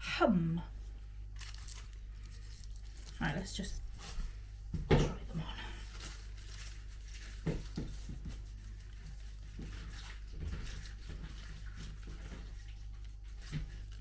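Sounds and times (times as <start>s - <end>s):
paper rustling: 1.3s - 4.4s, 5.4s - 14.0s.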